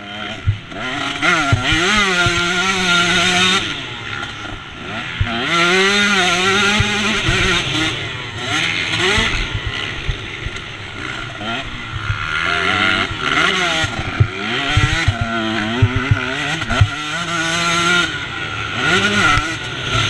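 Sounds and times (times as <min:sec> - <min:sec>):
motocross engine revving hard: 0:00.0 - 0:20.0.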